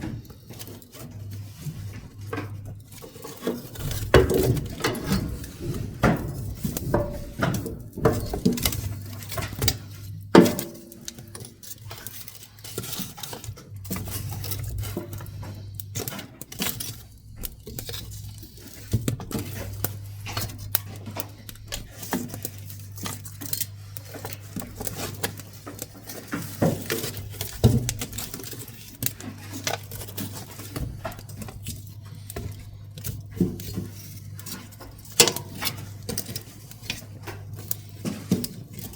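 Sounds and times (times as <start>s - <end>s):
wood crackling and popping in stove: 0.0s - 38.9s.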